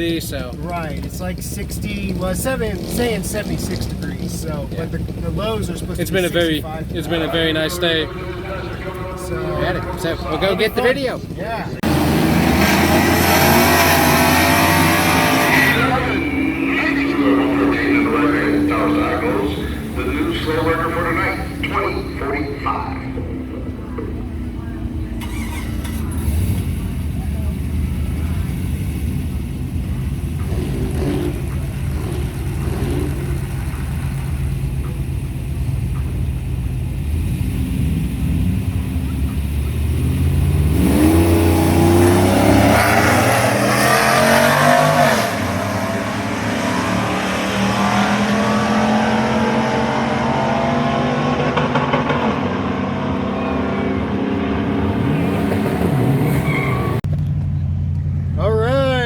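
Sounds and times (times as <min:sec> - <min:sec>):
drag racing engines revving: 0:00.0 - 0:59.0.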